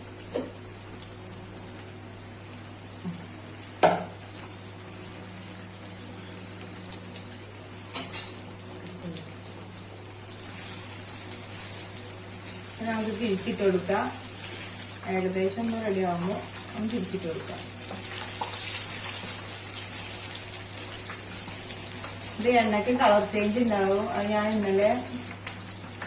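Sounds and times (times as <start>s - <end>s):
batter slices sizzling in hot oil: 0.0s - 26.0s.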